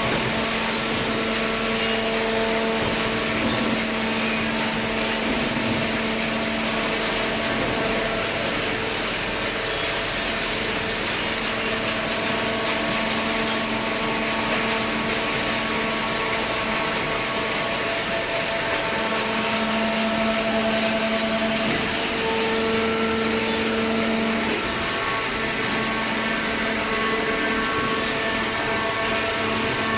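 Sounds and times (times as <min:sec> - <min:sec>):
cardboard baler running: 0:00.0 - 0:29.9.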